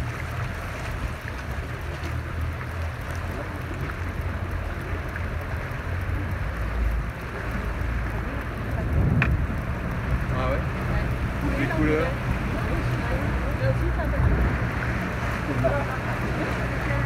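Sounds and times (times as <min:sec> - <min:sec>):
motorboat engine rumble: 0:00.0 - 0:17.0
water rushing along hull: 0:00.0 - 0:17.0.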